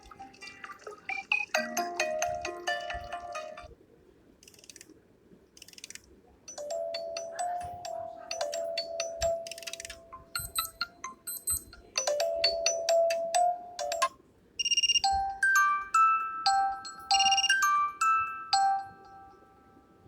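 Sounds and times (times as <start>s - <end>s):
bell-like ringtone melody: 0.0s - 3.7s, 6.5s - 20.0s
chiming ringtone melody: 0.0s - 3.7s, 6.5s - 20.0s.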